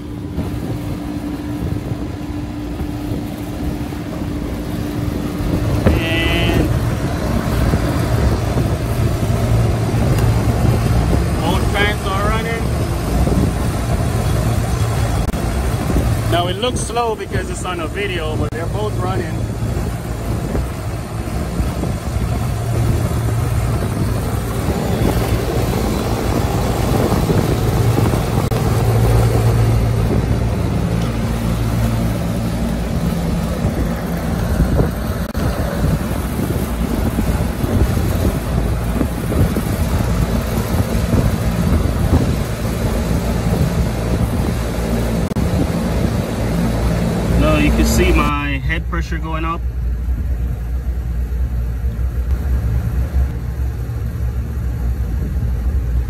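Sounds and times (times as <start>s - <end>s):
air conditioning unit running: 0.0s - 56.0s.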